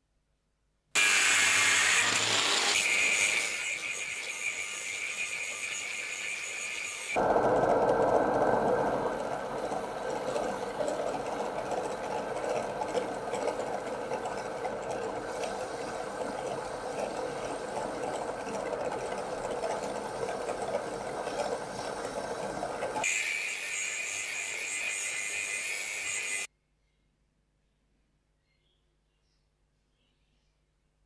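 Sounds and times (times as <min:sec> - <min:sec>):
part grinding on abrasive disc: 0:01.0 - 0:26.4
drill bit boring into metal: 0:01.0 - 0:26.5.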